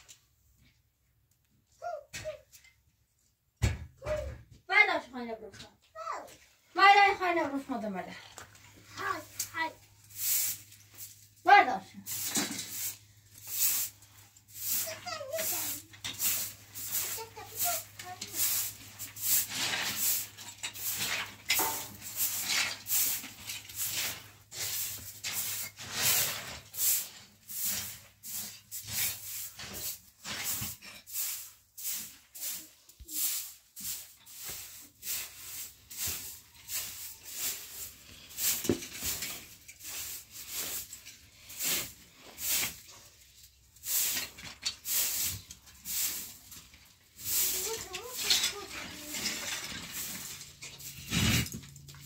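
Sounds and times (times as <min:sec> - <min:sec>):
hand broom sweeping dusty floor: 0:06.8 - 0:52.0.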